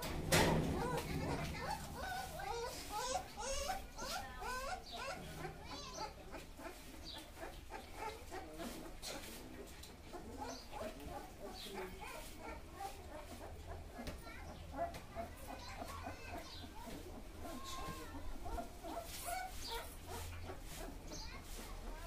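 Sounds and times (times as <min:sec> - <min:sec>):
puppies squeaking and whimpering: 0:00.0 - 0:22.0.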